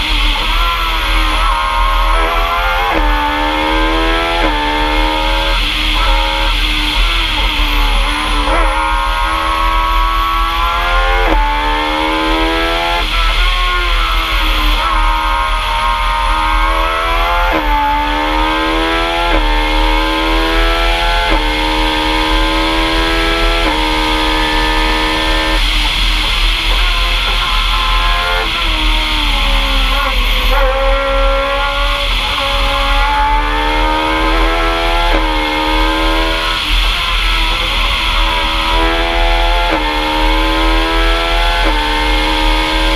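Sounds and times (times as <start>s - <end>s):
racing car engine revving: 0.0s - 42.9s.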